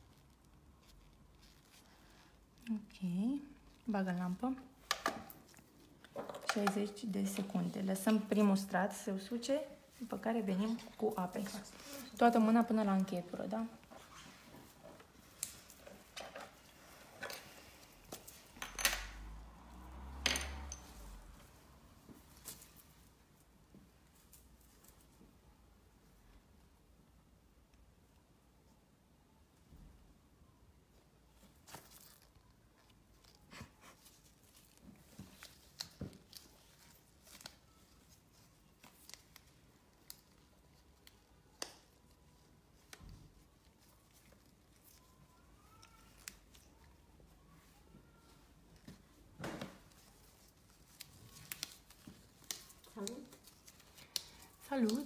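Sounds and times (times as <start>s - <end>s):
faint clicks and rustles: 0.0s - 26.6s, 30.8s - 55.0s.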